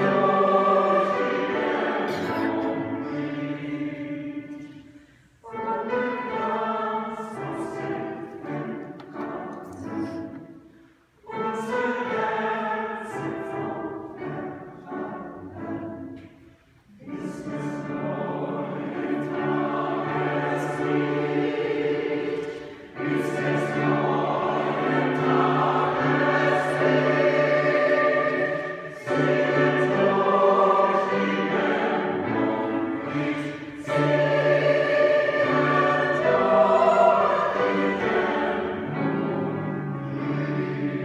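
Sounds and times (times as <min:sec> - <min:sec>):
mixed choir singing: 0:00.0 - 0:41.0.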